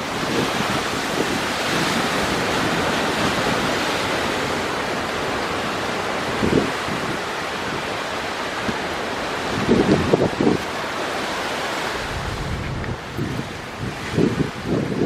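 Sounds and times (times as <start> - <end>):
sea surf breaking: 0.0 - 15.0
strong wind: 0.0 - 15.0
wind buffeting microphone: 0.0 - 15.0.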